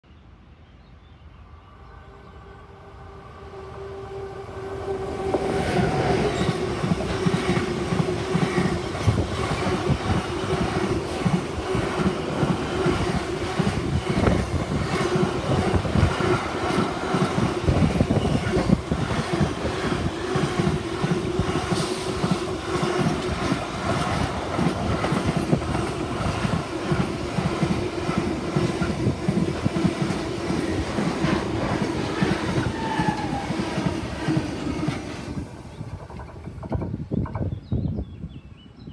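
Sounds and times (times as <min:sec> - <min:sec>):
electric locomotive passing: 0:01.3 - 0:37.6
train wheels clickety-clack: 0:05.3 - 0:37.9.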